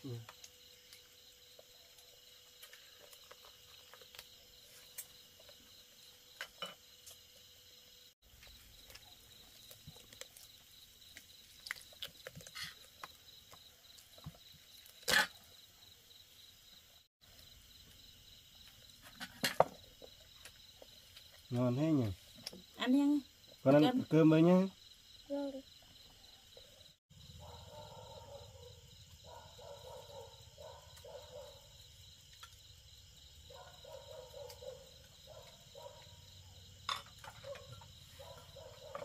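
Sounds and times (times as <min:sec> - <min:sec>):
night insects chirring: 0:00.0 - 0:39.0.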